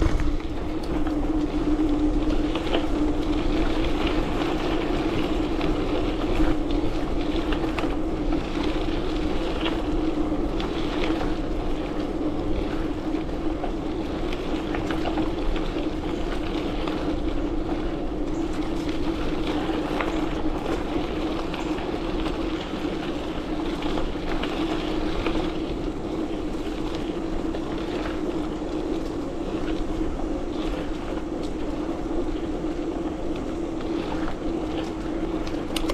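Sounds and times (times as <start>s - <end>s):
bike rattling over rough ground: 0.0s - 35.9s
bike riding hum and rush: 0.0s - 35.9s.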